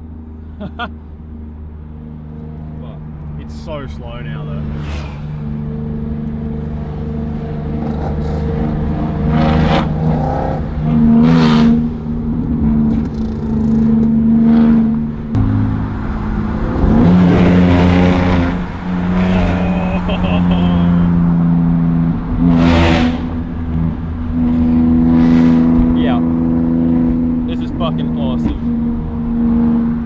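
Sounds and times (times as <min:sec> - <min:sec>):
car exhaust revving: 0:00.0 - 0:30.0.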